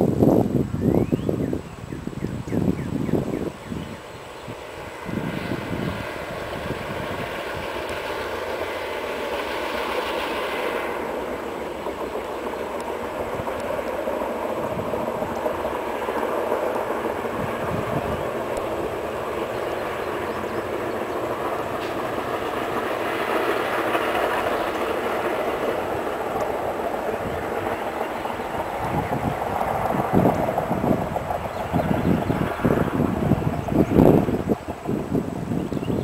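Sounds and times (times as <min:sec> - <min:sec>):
track machine engines: 0:02.3 - 0:36.0
wheels on rails: 0:03.4 - 0:36.0.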